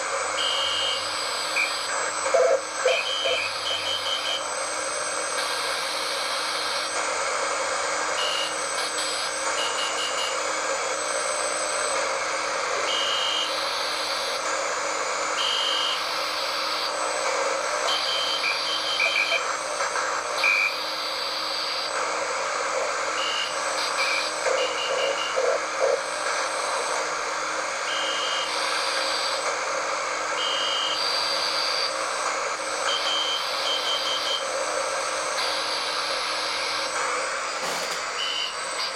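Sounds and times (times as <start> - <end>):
radio static hiss: 0.4 - 10.8, 12.5 - 14.6, 15.4 - 29.4, 33.4 - 38.9.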